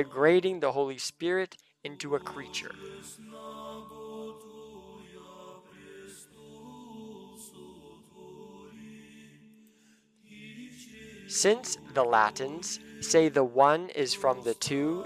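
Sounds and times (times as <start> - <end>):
soft chant-like singing: 0.0 - 0.9, 1.9 - 9.6, 10.2 - 15.0.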